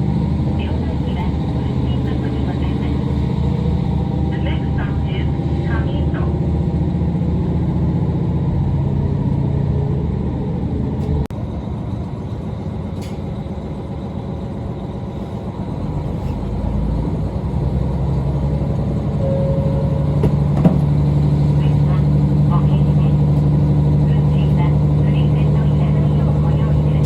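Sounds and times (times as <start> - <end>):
diesel railcar engine running: 0.0 - 27.0.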